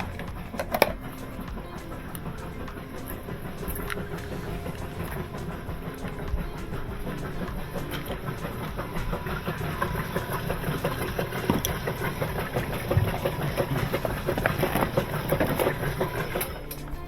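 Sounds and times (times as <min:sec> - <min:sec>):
motor running with rattling clicks: 0:00.0 - 0:17.0.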